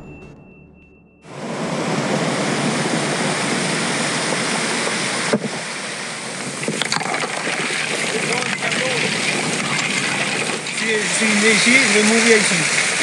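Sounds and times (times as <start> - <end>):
surf washing over boulders: 1.3 - 13.0.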